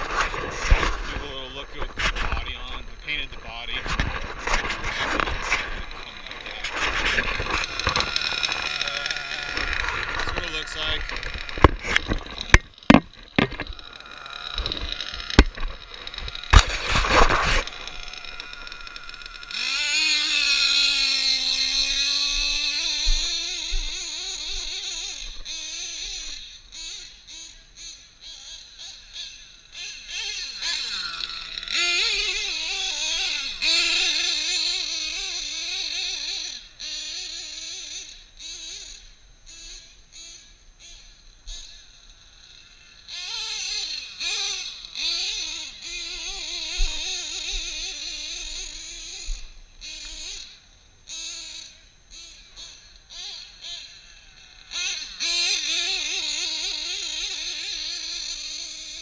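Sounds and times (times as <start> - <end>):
small nitro engine screaming: 0.0 - 59.0.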